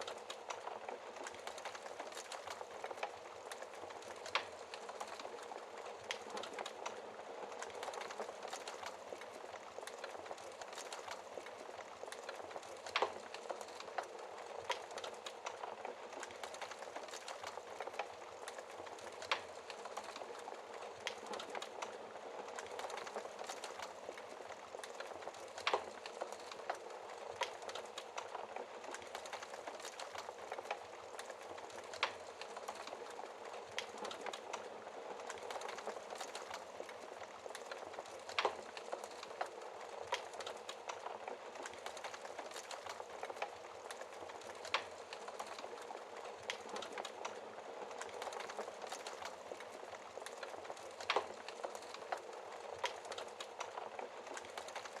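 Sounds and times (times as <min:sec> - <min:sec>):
wood fire hissing and crackling: 0:00.0 - 0:55.0.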